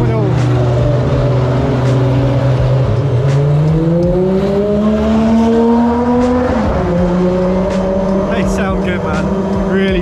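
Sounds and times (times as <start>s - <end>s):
race car engine revving: 0.0s - 10.0s.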